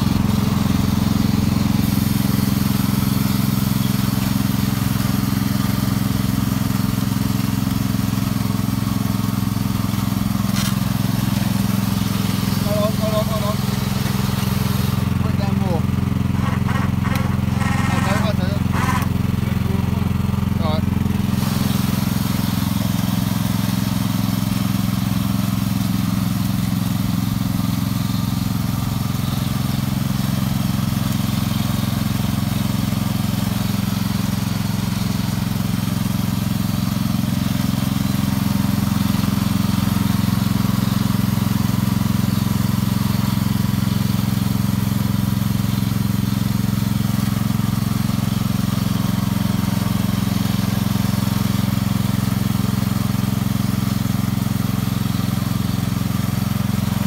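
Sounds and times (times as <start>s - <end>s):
garden tractor engine under load: 0.0s - 57.0s.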